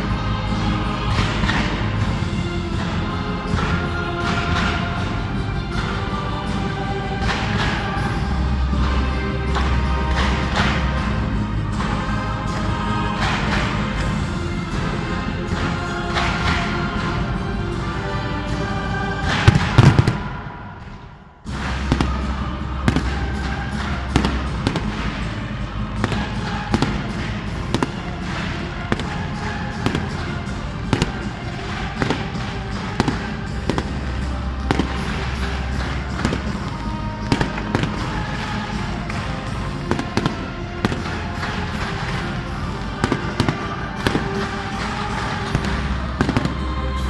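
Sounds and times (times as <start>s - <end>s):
fireworks bangs and crackles: 0.0s - 17.3s, 19.2s - 47.0s
music playing: 0.0s - 47.0s.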